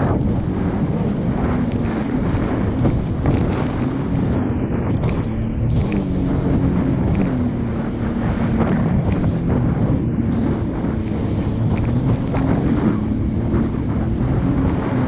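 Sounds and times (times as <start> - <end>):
jet ski engine running: 0.0 - 15.0
wind on microphone: 0.0 - 15.0.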